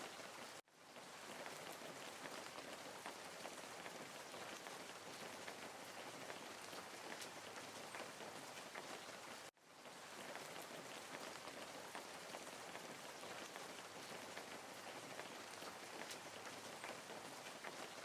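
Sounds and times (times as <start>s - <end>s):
faint rain hiss and patter: 0.0s - 18.0s.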